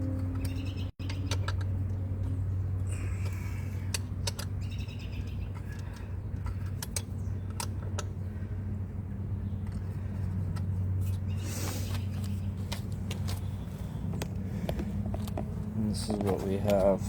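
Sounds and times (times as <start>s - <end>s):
steady low hum: 0.0s - 17.0s
small birds chirping: 0.4s - 14.7s.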